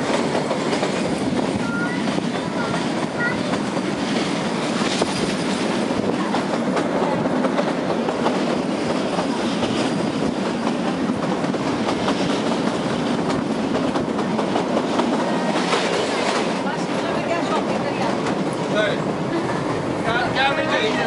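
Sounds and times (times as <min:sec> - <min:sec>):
clickety-clack over rail joints: 0:00.0 - 0:19.8
train wheels rumbling on track: 0:00.0 - 0:21.0.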